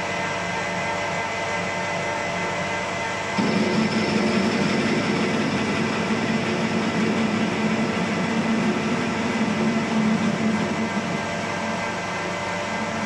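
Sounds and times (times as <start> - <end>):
metal lathe machining hum: 0.0 - 13.0.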